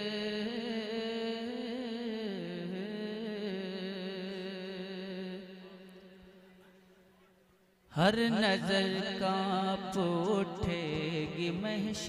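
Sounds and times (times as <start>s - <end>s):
man singing a long note: 0.0s - 6.9s, 7.9s - 12.0s.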